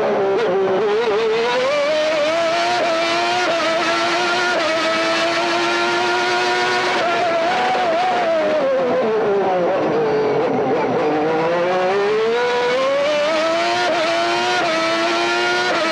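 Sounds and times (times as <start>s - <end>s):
racing car engine at full throttle: 0.0s - 15.9s.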